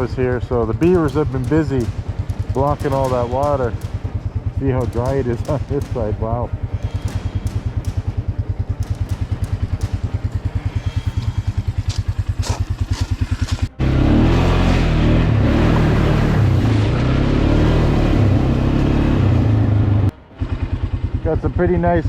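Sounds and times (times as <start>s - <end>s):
small vehicle engine chugging: 0.0s - 14.4s, 15.6s - 22.0s.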